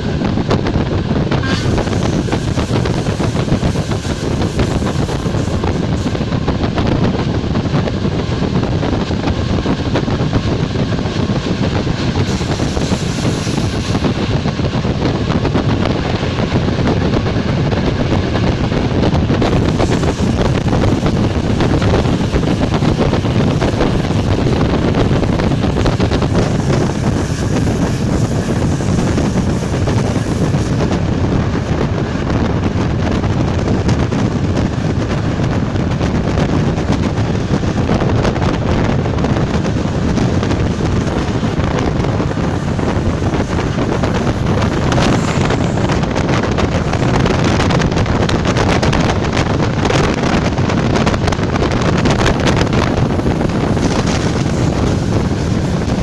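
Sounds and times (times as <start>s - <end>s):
train running at speed: 0.0s - 56.0s
wind buffeting microphone: 0.0s - 56.0s.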